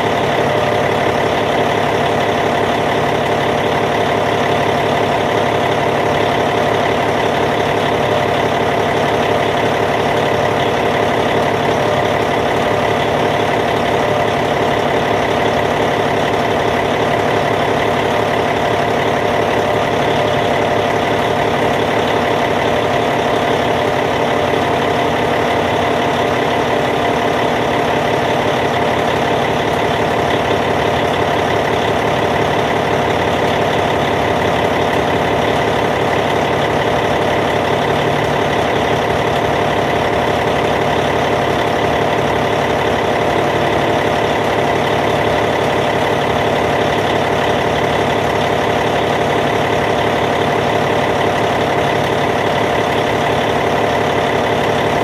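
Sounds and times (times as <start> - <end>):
diesel bulldozer engine idling: 0.0 - 55.0.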